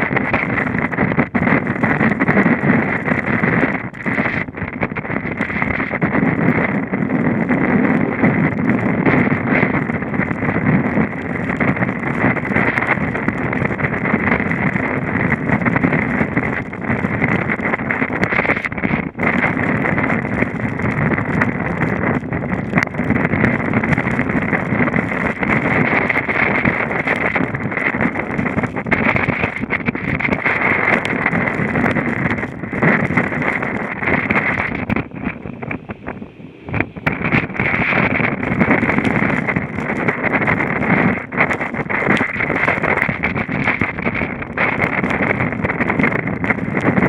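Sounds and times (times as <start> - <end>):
breaking seas rushing: 0.0 - 47.0
wind blowing across microphone: 0.0 - 47.0.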